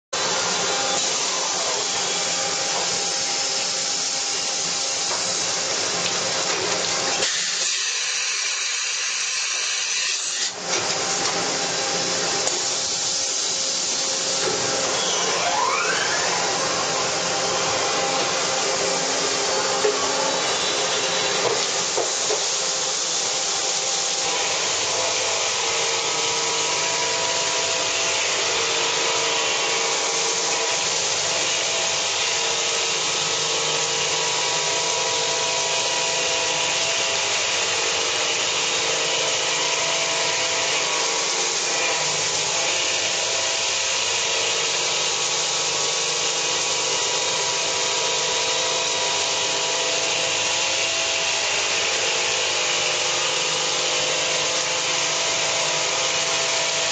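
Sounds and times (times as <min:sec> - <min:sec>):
coolant spray hiss: 0:00.2 - 0:15.2, 0:16.6 - 0:56.9
machine milling metal: 0:00.2 - 0:56.9.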